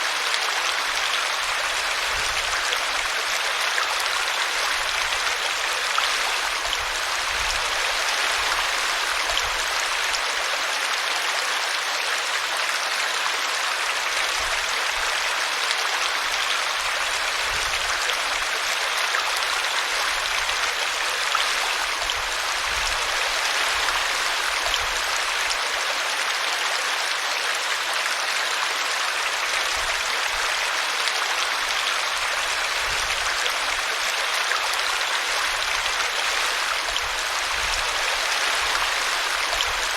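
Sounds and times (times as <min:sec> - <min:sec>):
brook water rushing and splashing: 0:00.0 - 0:39.9.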